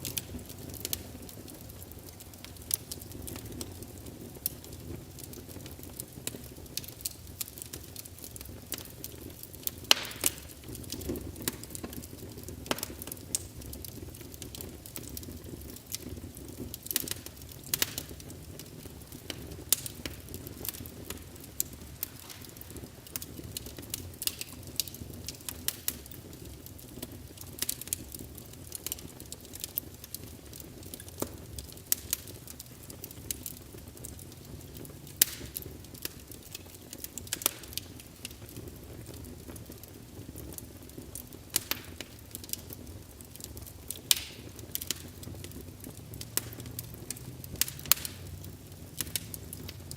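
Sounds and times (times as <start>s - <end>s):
fire crackling and popping: 0.0s - 49.9s
flames rumbling: 0.0s - 49.9s.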